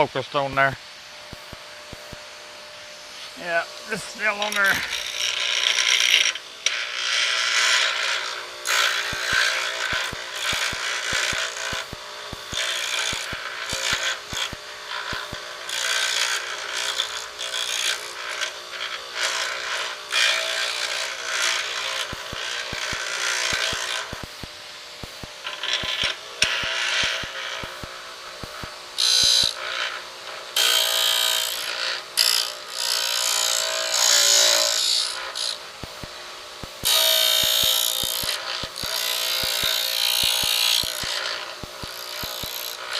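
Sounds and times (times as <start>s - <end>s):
bench grinder humming: 1.2s - 42.9s
tool grinding against wheel: 3.1s - 24.4s, 25.4s - 36.1s, 36.8s - 42.9s.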